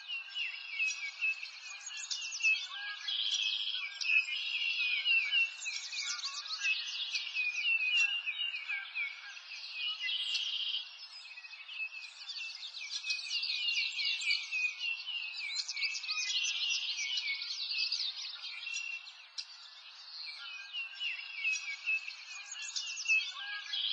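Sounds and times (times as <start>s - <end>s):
songbirds chirping and trilling: 0.0s - 23.9s.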